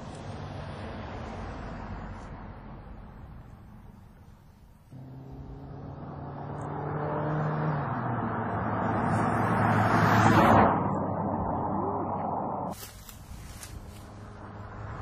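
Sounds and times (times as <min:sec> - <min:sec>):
car passing by: 0:00.0 - 0:04.0, 0:04.9 - 0:15.0
car engine: 0:00.0 - 0:15.0.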